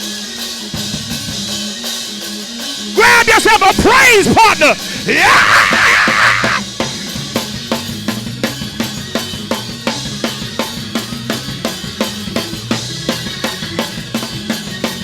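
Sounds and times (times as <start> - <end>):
up-tempo gospel music: 0.0 - 15.0
drum kit playing: 3.0 - 15.0.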